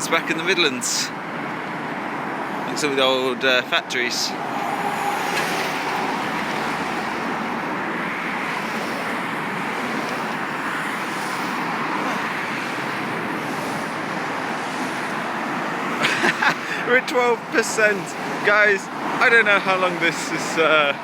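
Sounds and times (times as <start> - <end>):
cars passing on street: 0.0 - 21.0.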